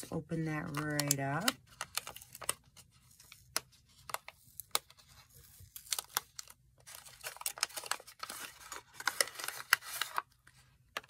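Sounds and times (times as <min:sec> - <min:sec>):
paper packaging crinkling: 0:00.0 - 0:11.0.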